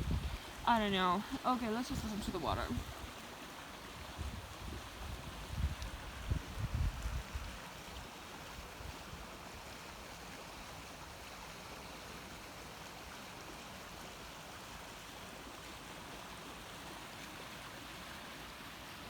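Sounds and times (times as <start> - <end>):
river gushing: 0.0 - 19.0.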